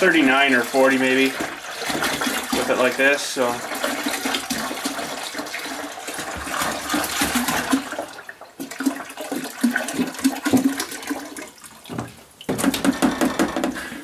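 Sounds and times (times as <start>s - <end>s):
liquid pouring into plastic bucket: 0.0s - 13.4s
jug glugging as it drains: 0.0s - 14.0s.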